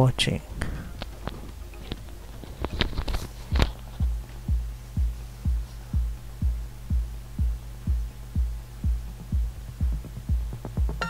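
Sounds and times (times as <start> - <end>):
low sustained hum: 0.0 - 11.0
electronic music with bass beat: 1.0 - 11.0.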